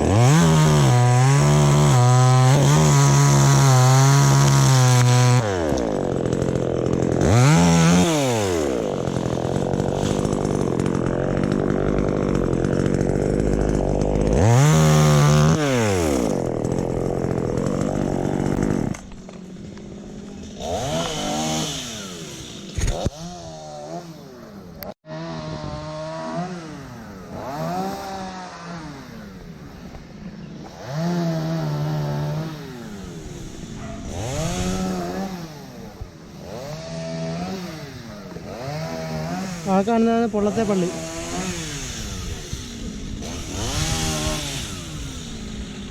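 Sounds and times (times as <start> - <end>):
chainsaw running: 0.0 - 45.9.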